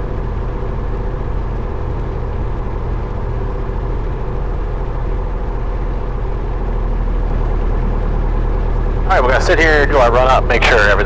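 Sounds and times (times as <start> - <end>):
airplane piston engine droning: 0.0 - 11.0.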